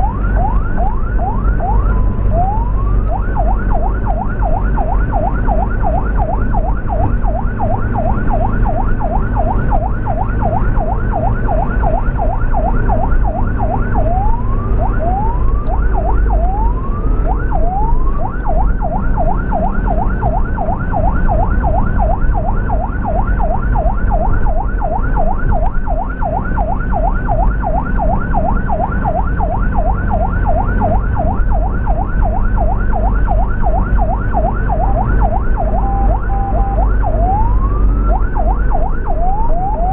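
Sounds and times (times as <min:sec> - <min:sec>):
ambulance siren yelping: 0:00.0 - 0:39.9
vehicle engine and road rumble: 0:00.0 - 0:39.9.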